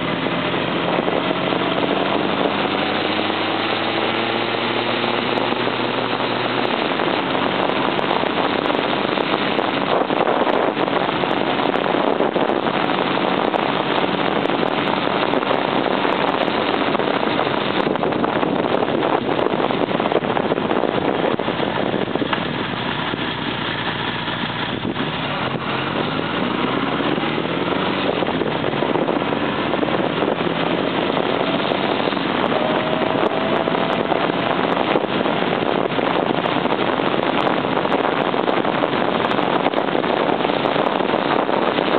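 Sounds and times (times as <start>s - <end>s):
motorcycle engine running: 0.0s - 41.9s
wind rush on microphone: 0.0s - 41.9s.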